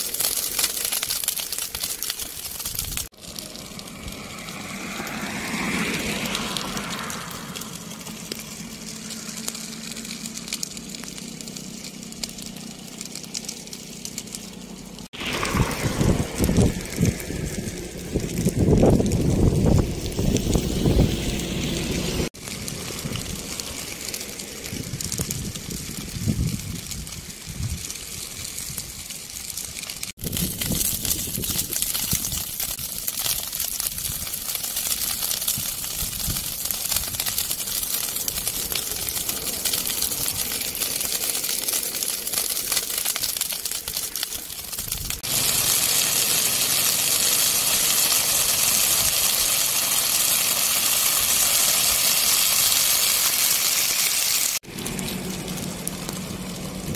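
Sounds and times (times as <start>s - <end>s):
grass and brush crackling in fire: 0.0s - 56.9s.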